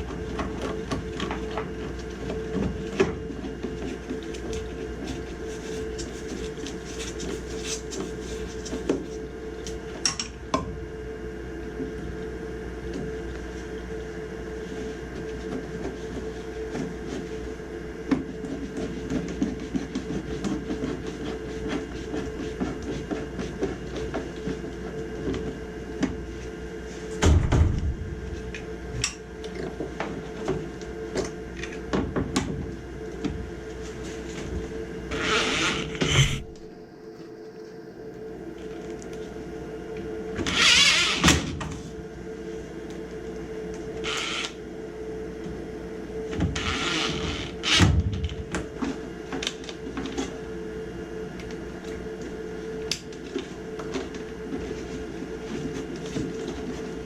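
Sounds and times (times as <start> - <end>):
machine hum: 0.0 - 57.0.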